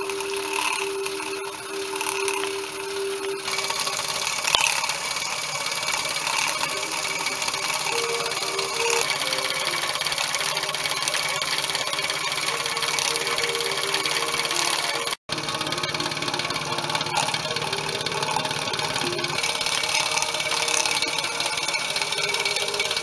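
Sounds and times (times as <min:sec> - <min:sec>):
model steam engine running: 0:00.0 - 0:23.0.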